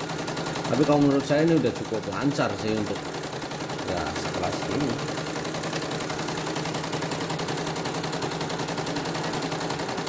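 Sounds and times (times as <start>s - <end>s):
embroidery machine needle clatter: 0.0s - 10.0s.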